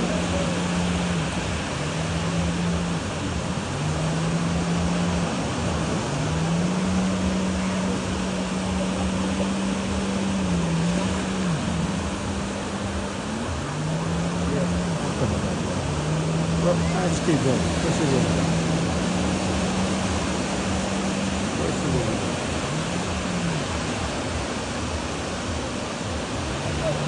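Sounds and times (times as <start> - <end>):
motorboat engine droning: 0.0 - 27.0
rush of wind and water: 0.0 - 27.0.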